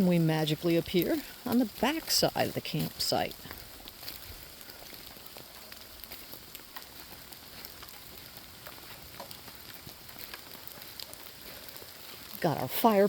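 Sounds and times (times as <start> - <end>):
light rain hissing: 0.0 - 13.0
raindrops ticking on leaves: 0.0 - 13.0.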